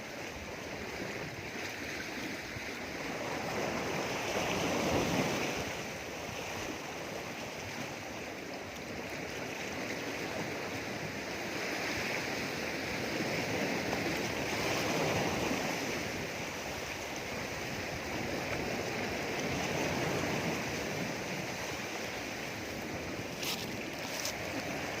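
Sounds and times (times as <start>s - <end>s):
sea waves washing around rocks: 0.0s - 25.0s.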